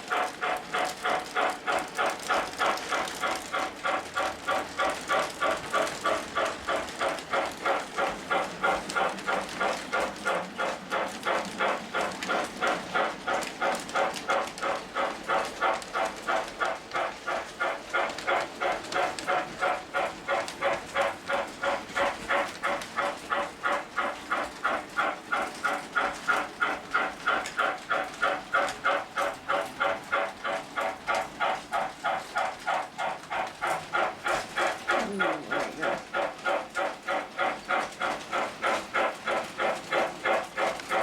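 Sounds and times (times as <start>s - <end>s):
model train running on track: 0.0s - 41.0s.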